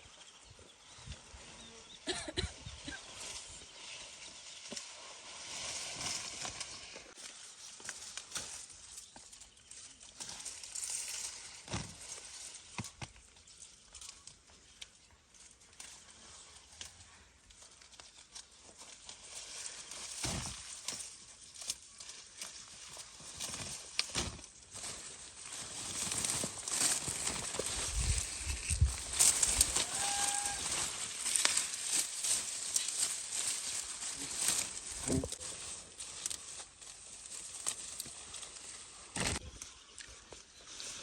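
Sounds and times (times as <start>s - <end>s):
leafy plants rustling: 0.0s - 41.0s.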